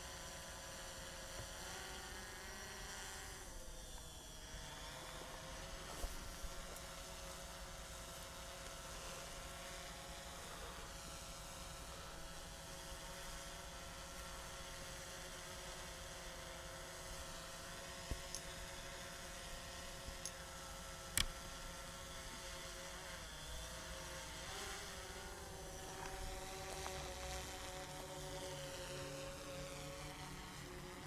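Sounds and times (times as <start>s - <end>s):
drone propellers buzzing: 0.0s - 31.0s.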